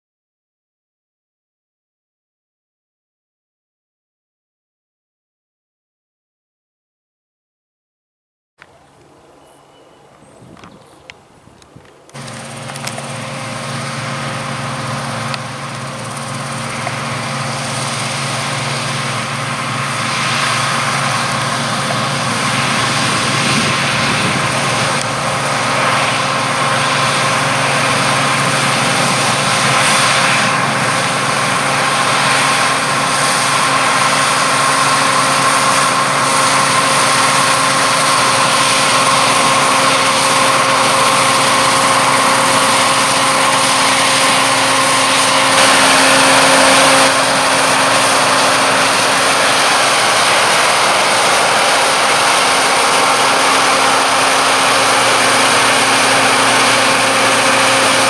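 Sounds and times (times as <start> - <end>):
combine harvester running: 11.5 - 58.0.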